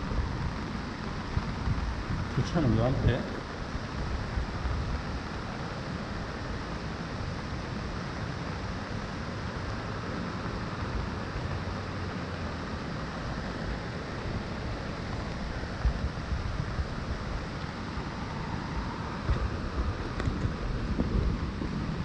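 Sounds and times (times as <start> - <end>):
rushing river in flood: 0.0 - 22.0
wind buffeting microphone: 0.0 - 22.0.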